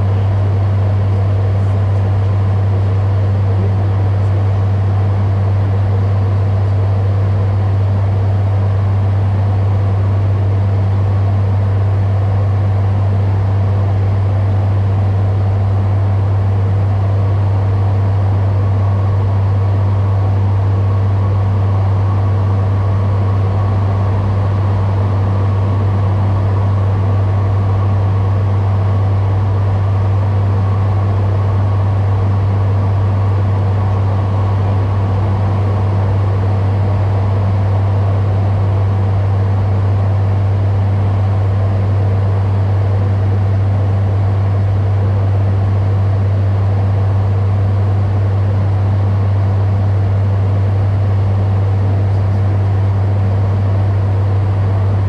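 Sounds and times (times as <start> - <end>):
turboprop engines low hum: 0.0 - 55.0.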